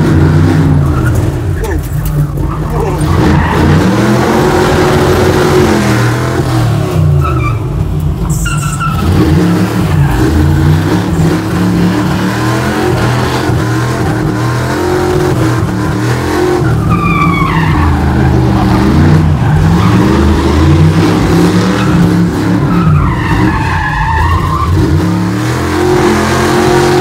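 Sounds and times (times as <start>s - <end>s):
truck engine revving: 0.0s - 27.0s
tyres screeching: 0.8s - 6.4s, 7.1s - 25.1s.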